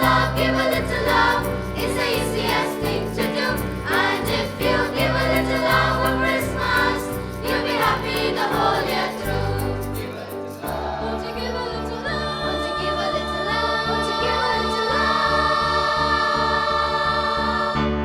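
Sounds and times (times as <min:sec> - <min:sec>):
children's choir singing: 0:00.0 - 0:18.0
instrumental accompaniment: 0:00.0 - 0:18.0.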